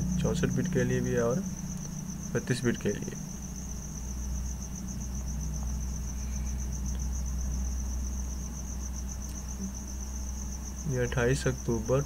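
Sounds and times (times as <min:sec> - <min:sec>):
cricket chirping: 0:00.0 - 0:12.0
low hum: 0:00.0 - 0:12.0.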